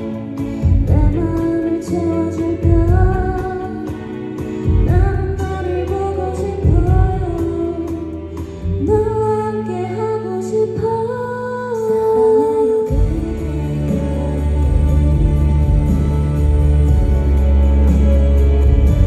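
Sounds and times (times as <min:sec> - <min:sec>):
instrumental accompaniment: 0:00.0 - 0:19.0
woman singing a slow ballad: 0:00.0 - 0:19.0.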